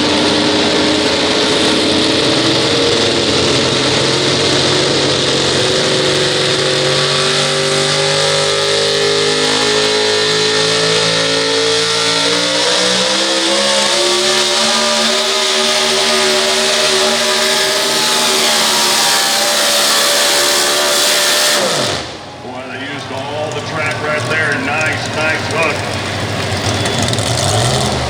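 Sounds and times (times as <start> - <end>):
truck engine at full throttle: 0.0 - 28.0.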